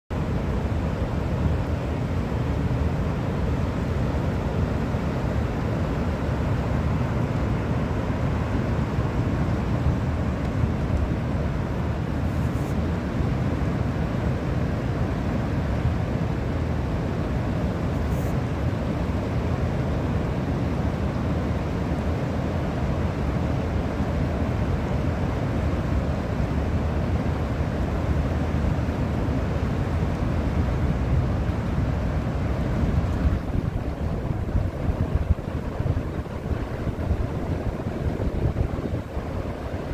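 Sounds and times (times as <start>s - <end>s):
river water rushing over a dam: 0.1s - 39.9s.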